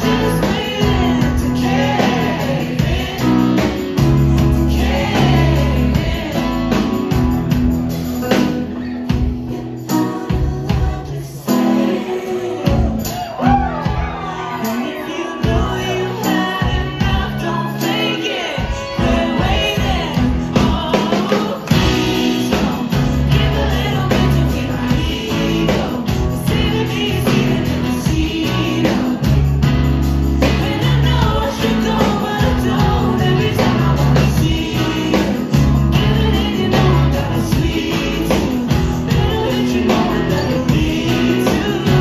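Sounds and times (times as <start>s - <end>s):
woman singing: 0.0s - 7.4s, 9.0s - 42.0s
bass guitar: 0.0s - 42.0s
drums: 0.0s - 42.0s
electric guitars: 0.0s - 42.0s.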